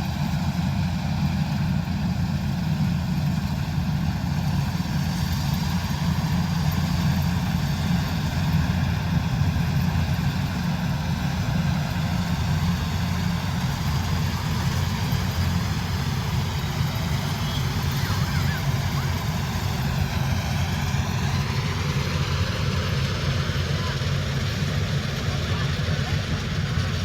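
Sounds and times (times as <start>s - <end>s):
combine harvester diesel engine: 0.0s - 27.0s.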